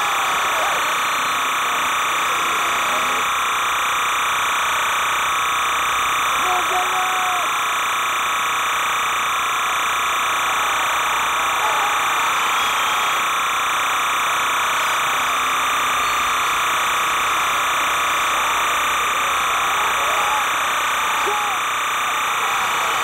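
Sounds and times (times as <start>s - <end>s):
faint voices: 0.0s - 5.2s, 6.2s - 23.0s
steady buzz: 0.0s - 23.0s.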